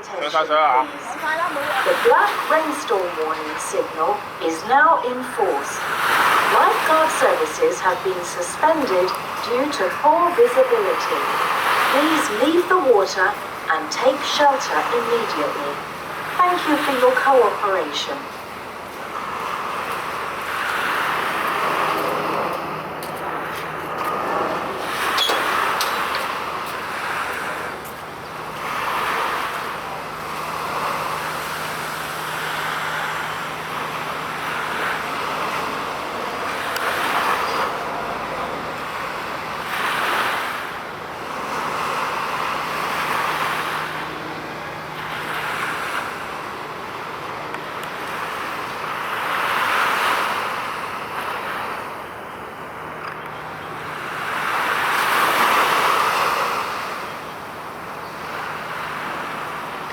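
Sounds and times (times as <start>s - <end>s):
waves washing onto beach: 0.0s - 59.9s.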